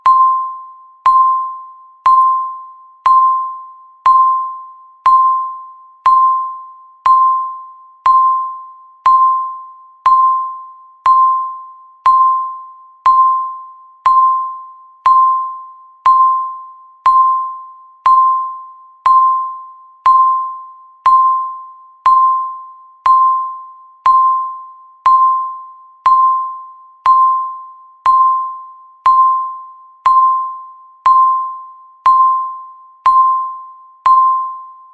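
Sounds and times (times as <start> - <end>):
timer bell chime: 0.0 - 34.9.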